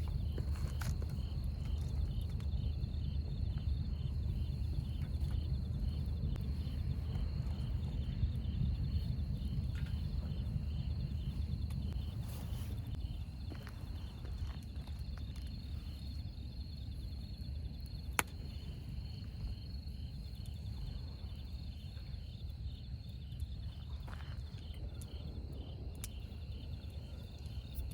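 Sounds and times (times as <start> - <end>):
insects chirping: 0.0 - 27.9
low rumble: 0.0 - 27.9.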